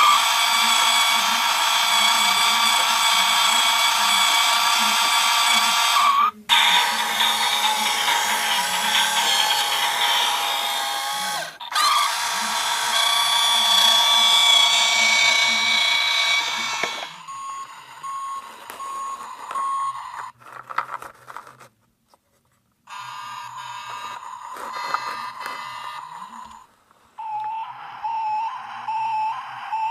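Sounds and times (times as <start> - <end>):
buzzy electronic toy sound: 0.0 - 20.3, 22.9 - 29.9.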